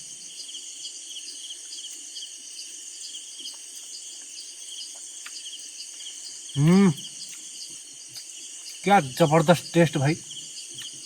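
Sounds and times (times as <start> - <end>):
crickets chirping: 0.0 - 11.0
pulsed insect call: 0.0 - 11.0.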